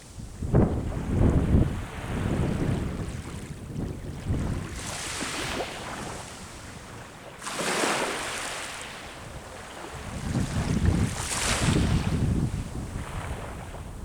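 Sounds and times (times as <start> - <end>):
sea waves breaking: 0.0 - 14.0
wind rumble on microphone: 0.0 - 14.0.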